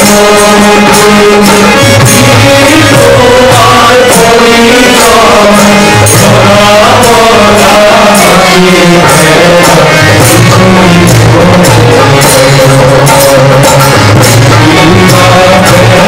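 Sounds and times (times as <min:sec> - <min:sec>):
drum keeping time: 0:00.0 - 0:16.0
group of men singing a chant: 0:00.0 - 0:16.0
harmonium: 0:00.0 - 0:16.0.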